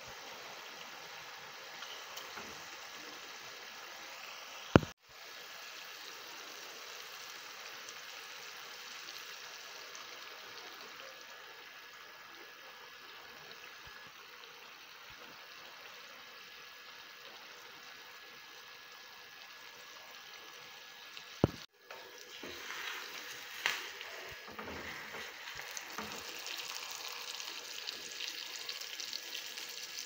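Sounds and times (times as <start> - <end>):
stew simmering with a hiss: 0.0 - 30.0.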